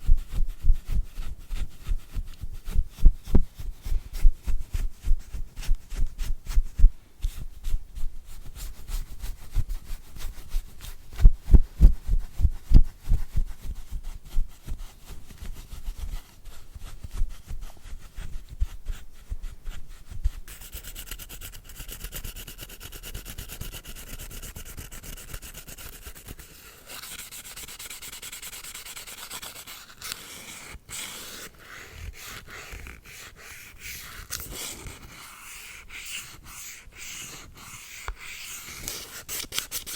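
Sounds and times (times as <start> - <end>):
brush scrubbing and rubbing: 0.0 - 22.7, 23.3 - 39.9.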